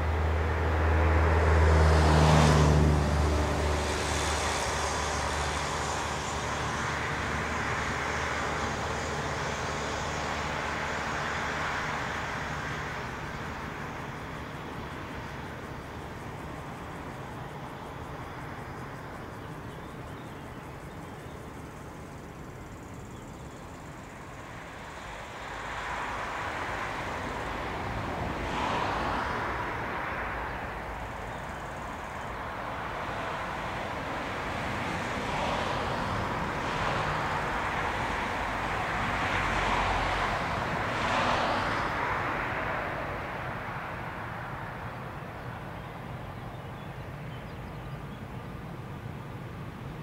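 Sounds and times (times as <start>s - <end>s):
road traffic driving past: 0.0s - 50.0s.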